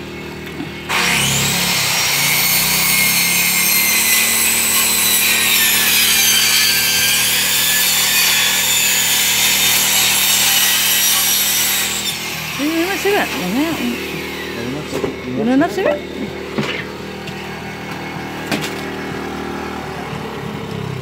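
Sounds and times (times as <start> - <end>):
electric power tool cutting: 0.0 - 21.0.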